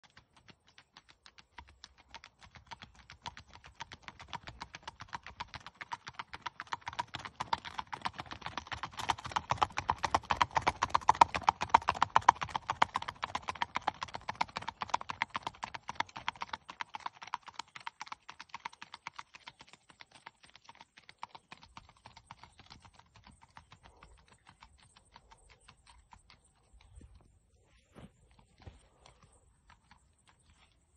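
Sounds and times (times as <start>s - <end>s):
horse hoofbeats on paved road: 0.0s - 27.3s, 28.4s - 30.7s.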